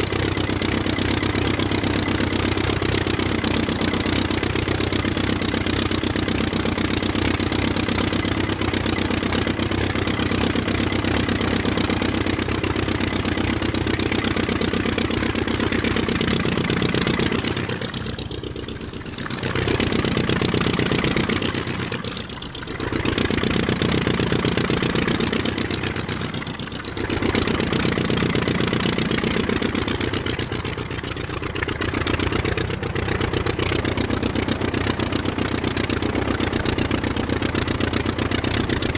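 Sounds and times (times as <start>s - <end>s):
aircraft engine pulsing: 0.0s - 38.9s.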